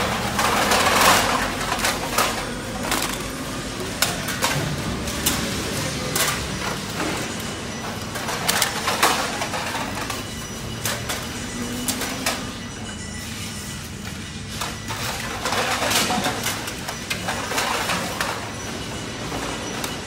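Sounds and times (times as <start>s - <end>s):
cans clattering on metal: 0.0s - 12.6s, 14.6s - 20.0s
conveyor machinery hum: 0.0s - 20.0s.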